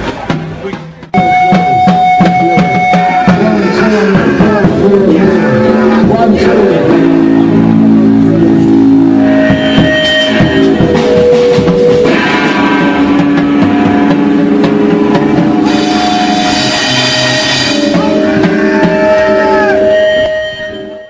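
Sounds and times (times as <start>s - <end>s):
drum kit: 0.0s - 21.0s
electric guitar: 1.2s - 21.0s.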